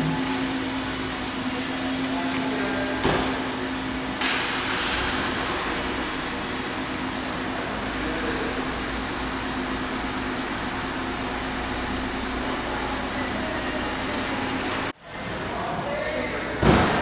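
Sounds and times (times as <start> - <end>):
low machine hum: 0.0 - 15.4.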